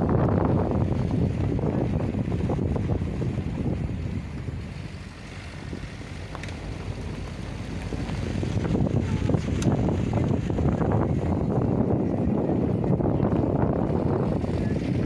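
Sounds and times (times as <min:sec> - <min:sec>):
vehicle rumbling on rough road: 0:00.0 - 0:15.0
wind on microphone: 0:00.0 - 0:15.0.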